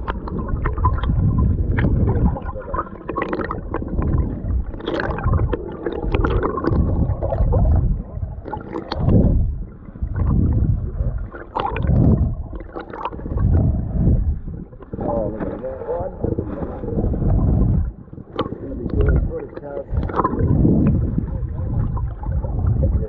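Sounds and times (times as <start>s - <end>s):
muffled underwater water sloshing: 0.0s - 23.0s.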